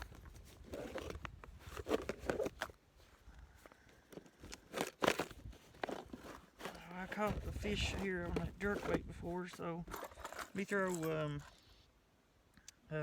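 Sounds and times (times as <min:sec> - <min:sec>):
fishing tackle rustling: 0:00.0 - 0:11.8.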